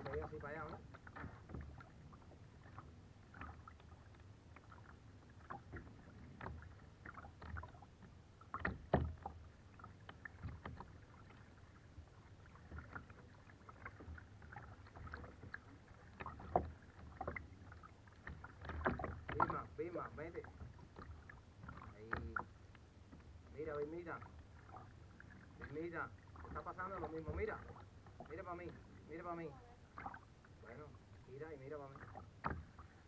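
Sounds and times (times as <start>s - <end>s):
paddle blades splashing: 0.0s - 33.0s
water lapping: 0.0s - 33.0s.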